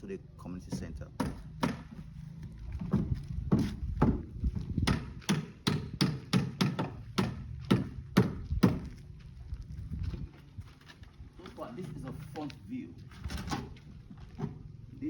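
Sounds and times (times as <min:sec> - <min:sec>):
footsteps on hard ground: 0:00.8 - 0:14.8.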